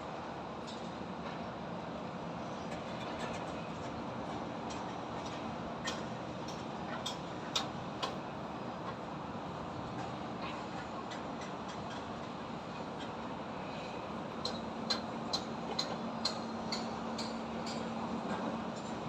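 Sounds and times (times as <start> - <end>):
city noise: 0.0 - 19.0.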